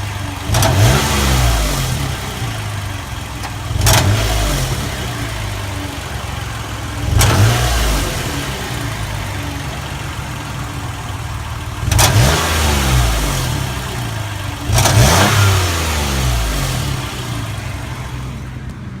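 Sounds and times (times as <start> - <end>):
car engine idling and revving: 0.0 - 19.0
exhaust clicking and tapping: 0.0 - 19.0.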